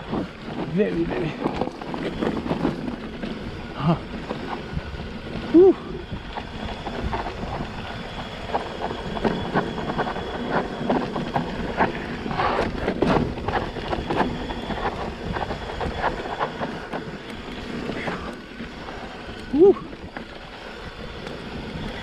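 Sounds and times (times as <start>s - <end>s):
bike rattling over rocks: 0.0s - 22.0s.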